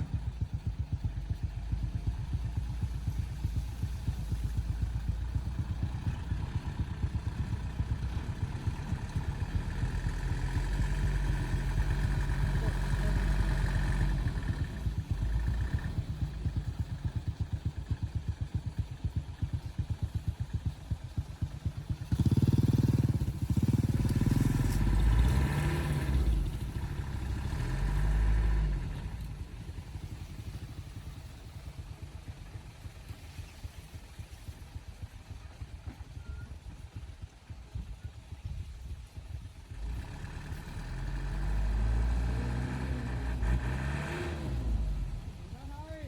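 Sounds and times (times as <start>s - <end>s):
vehicle engine running and revving: 0.0s - 46.0s.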